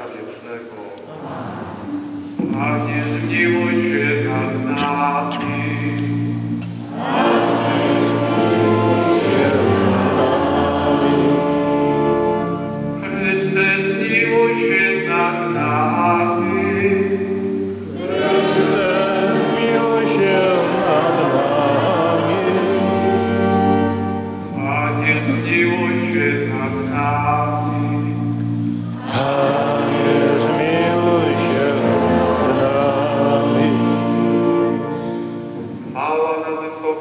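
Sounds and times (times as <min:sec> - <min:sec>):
congregation singing: 0:00.0 - 0:37.0
organ accompaniment: 0:00.0 - 0:37.0.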